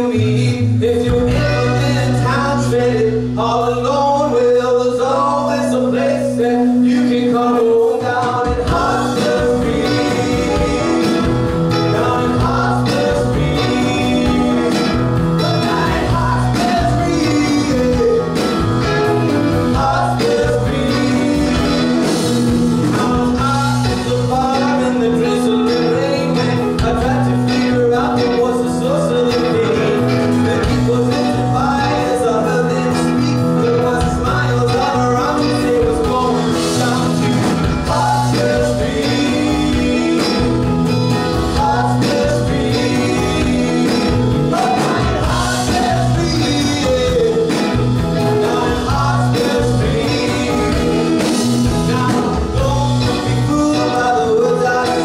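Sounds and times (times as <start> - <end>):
man singing: 0.0 - 55.0
rock band playing: 0.0 - 55.0.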